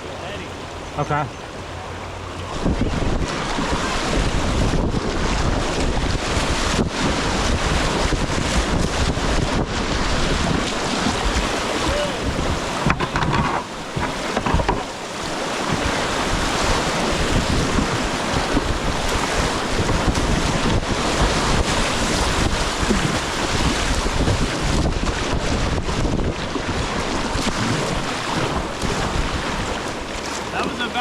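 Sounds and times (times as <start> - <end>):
whitewater rushing and splashing: 0.0 - 31.0
wind buffeting microphone: 2.0 - 31.0.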